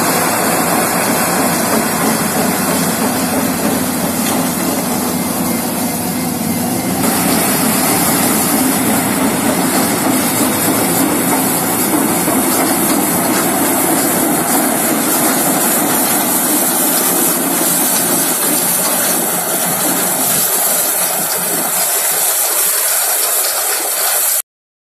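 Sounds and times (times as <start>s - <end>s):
harvester machinery running: 0.0s - 24.4s.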